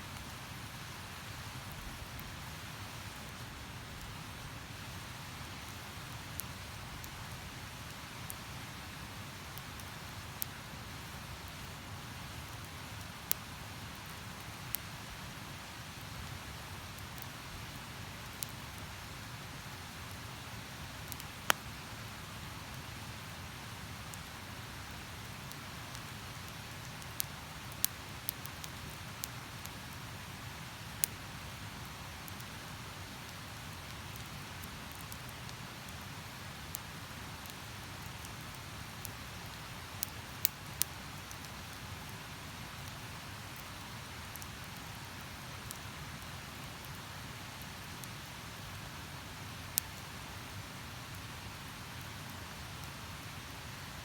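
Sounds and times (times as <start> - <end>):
campfire crackling and popping: 1.4 - 4.2, 4.8 - 21.8, 23.7 - 50.3.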